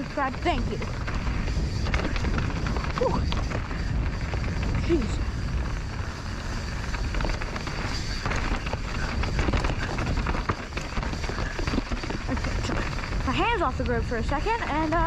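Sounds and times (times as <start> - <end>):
bike clattering: 0.0 - 15.0
tyres on dirt and rocks: 0.0 - 15.0
wind buffeting microphone: 0.0 - 15.0.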